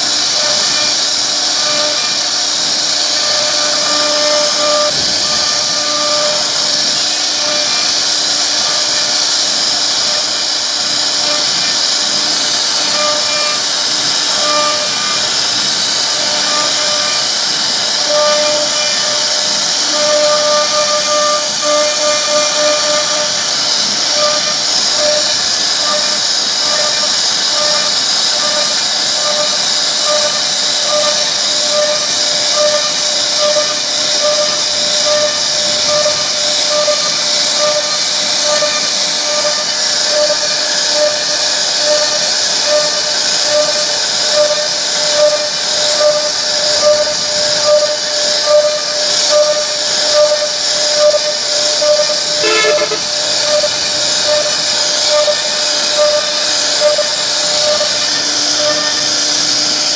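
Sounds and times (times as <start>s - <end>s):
router spindle carving wood: 0.0s - 59.9s.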